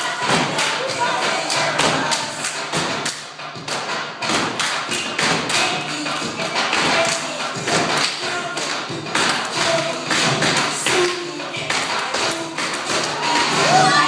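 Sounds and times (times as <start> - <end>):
hand claps: 0.0 - 14.0.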